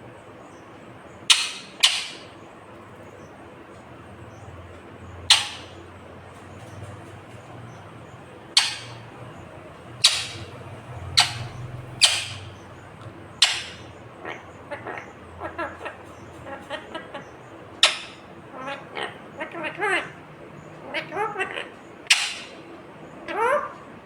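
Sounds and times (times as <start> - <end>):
parakeet squawking: 1.2 - 2.4, 4.4 - 23.8.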